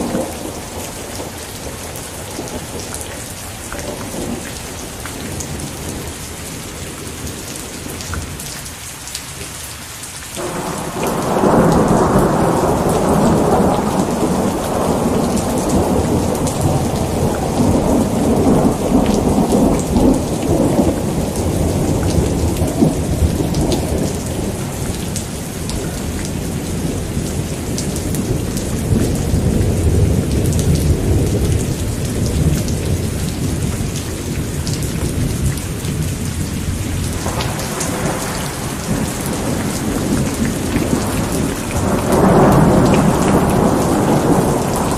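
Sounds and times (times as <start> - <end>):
thunder rumbling: 0.0 - 8.4, 10.4 - 44.9
heavy rain: 0.0 - 44.9.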